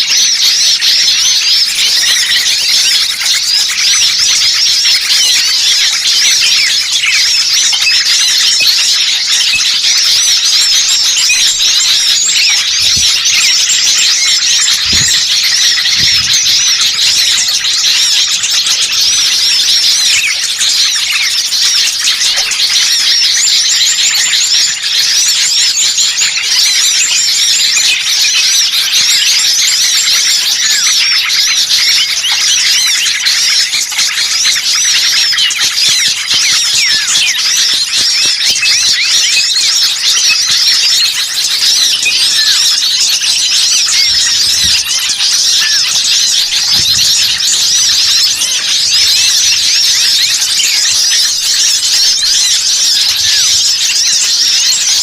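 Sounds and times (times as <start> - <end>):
flock of songbirds chirping: 0.0 - 55.0.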